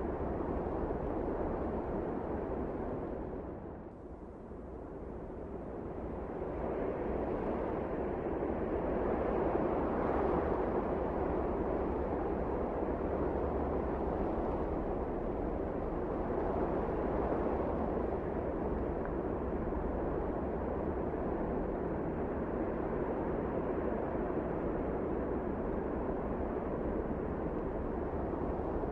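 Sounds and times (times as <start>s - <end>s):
blizzard wind blowing: 0.0s - 28.9s.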